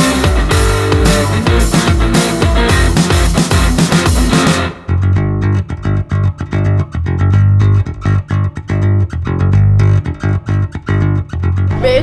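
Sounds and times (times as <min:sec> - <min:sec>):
plucked bass and guitar riff: 0:00.0 - 0:12.0.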